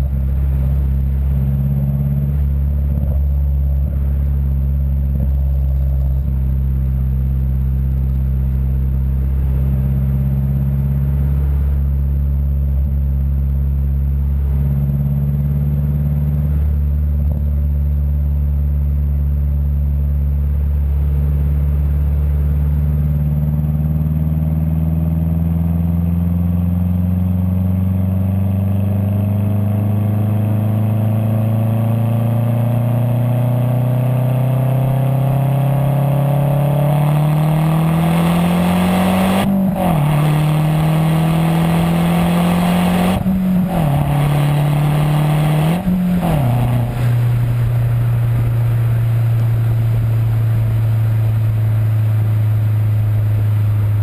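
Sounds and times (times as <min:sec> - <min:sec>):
car exhaust rising in pitch: 0:00.0 - 0:54.0.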